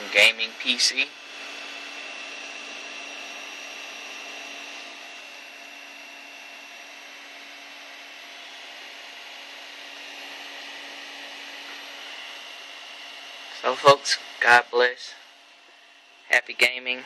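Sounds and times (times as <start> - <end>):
computer cooling fans: 0.0 - 17.0.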